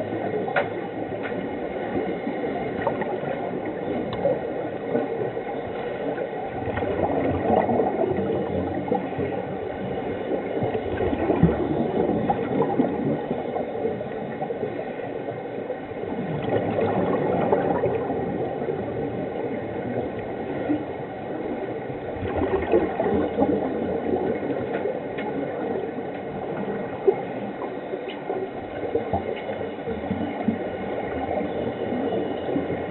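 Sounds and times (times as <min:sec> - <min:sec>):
underwater regulator bubbles gurgling: 0:00.0 - 0:32.9.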